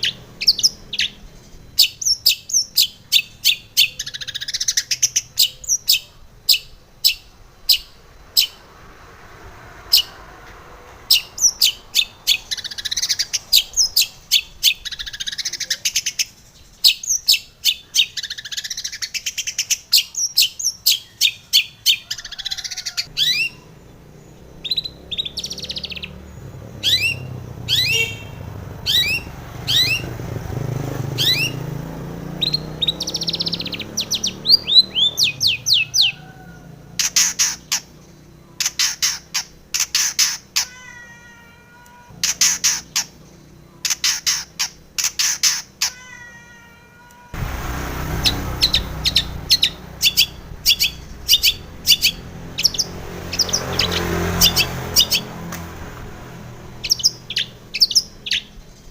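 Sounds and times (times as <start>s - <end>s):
bird chirping sharply: 0.0s - 8.8s, 9.8s - 10.2s, 10.9s - 41.1s, 41.7s - 46.3s, 47.0s - 58.9s.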